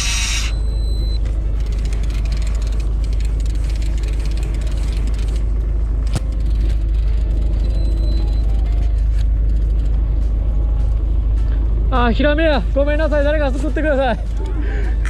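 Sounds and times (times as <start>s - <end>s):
boat engine rumbling: 0.5s - 15.0s.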